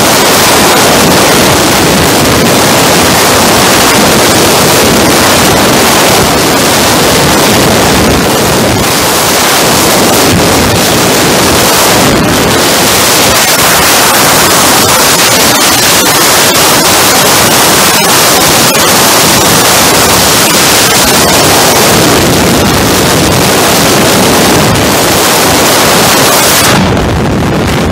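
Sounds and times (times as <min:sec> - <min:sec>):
motorcycle and road noise: 0:00.0 - 0:27.9
wind rushing over microphone: 0:00.0 - 0:27.9.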